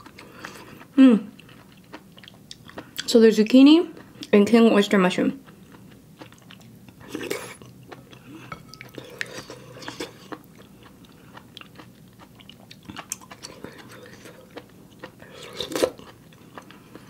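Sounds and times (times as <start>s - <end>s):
wet chewing mouth sounds: 0.0s - 3.1s, 5.4s - 17.0s.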